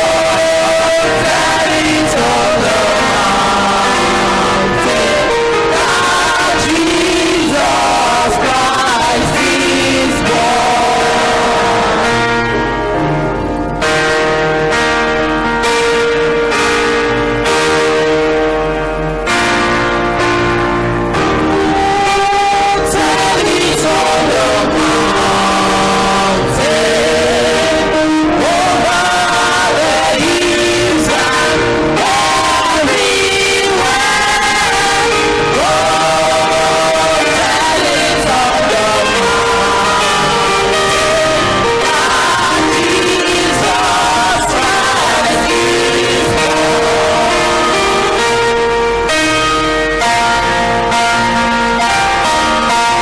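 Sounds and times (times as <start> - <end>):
choir singing gospel: 0.0 - 53.0
instrumental accompaniment: 0.0 - 53.0.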